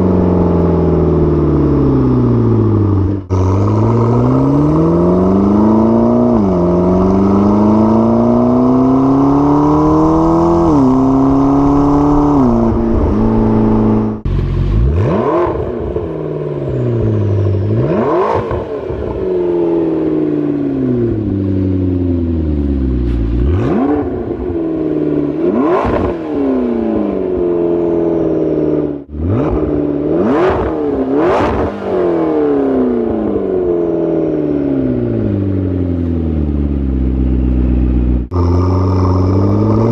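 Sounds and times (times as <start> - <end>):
car engine accelerating hard: 0.0 - 39.9
engine revving: 0.0 - 39.9.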